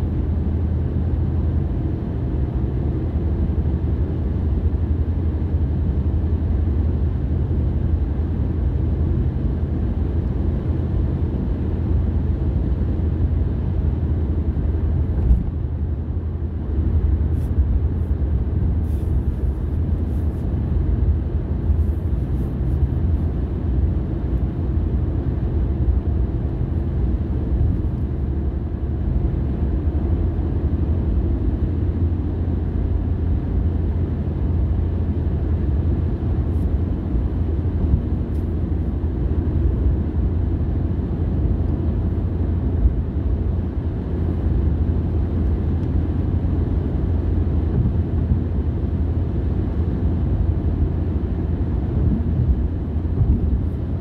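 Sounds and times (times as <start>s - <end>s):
car driving on road: 0.0s - 54.0s.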